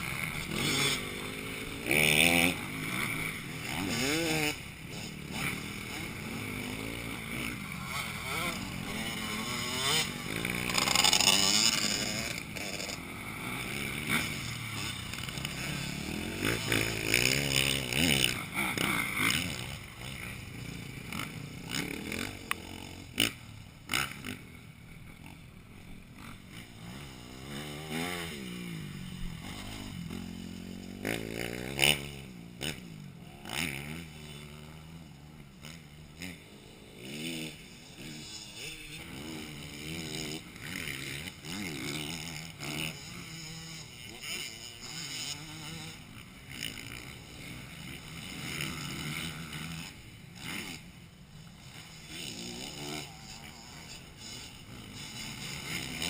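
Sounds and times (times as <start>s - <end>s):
motocross bikes revving: 0.0s - 56.0s.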